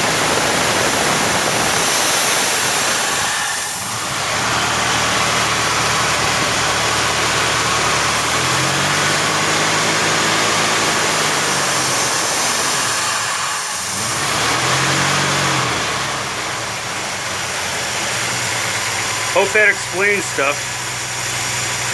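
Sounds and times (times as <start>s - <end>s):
truck engine running: 0.0s - 21.9s.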